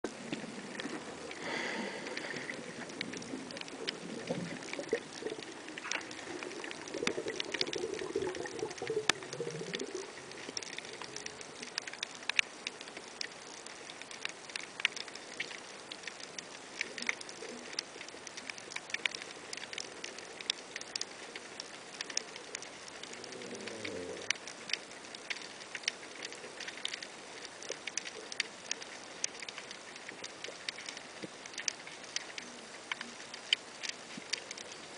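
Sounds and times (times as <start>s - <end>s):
snapping shrimp clicks underwater: 0.3s - 34.9s.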